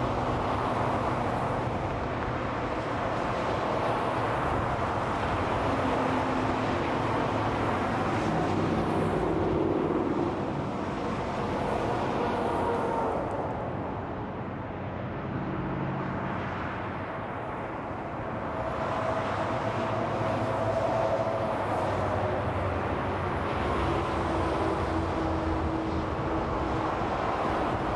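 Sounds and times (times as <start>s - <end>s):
freeway traffic rushing: 0.0s - 27.9s.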